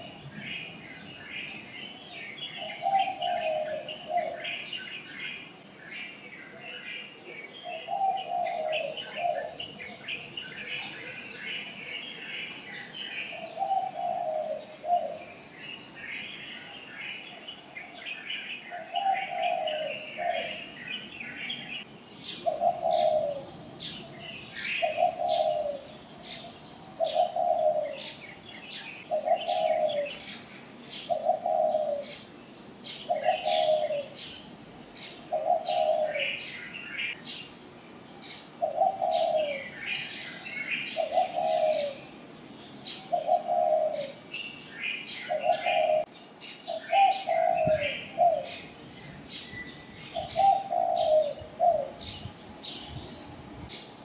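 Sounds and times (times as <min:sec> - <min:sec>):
small birds chirping rapidly: 0:00.0 - 0:54.0.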